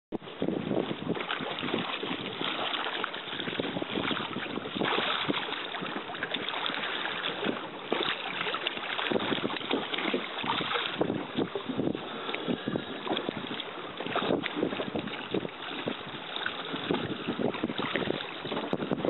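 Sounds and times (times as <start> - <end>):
water splashing and sloshing: 0.2 - 19.0.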